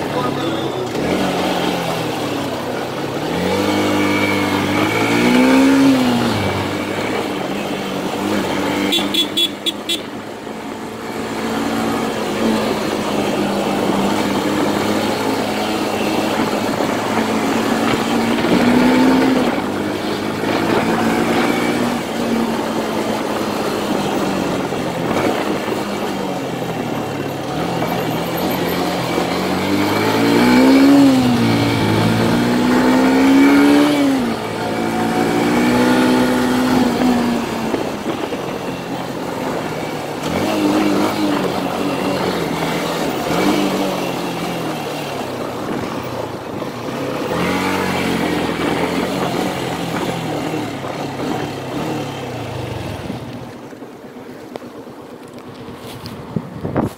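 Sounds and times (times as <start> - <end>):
motorcycle engine revving: 0.0 - 53.8
wind and road noise: 0.0 - 56.9.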